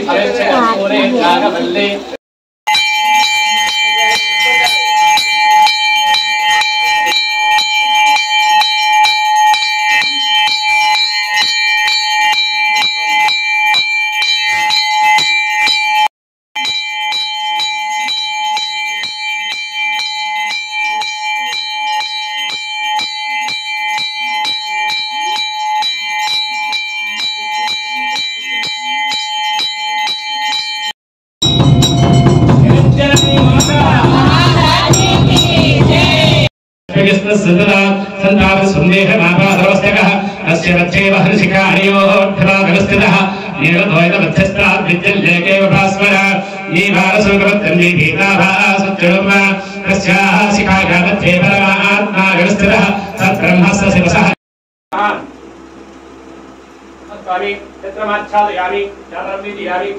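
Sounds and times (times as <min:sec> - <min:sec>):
brass bell ringing: 0:02.7 - 0:54.4.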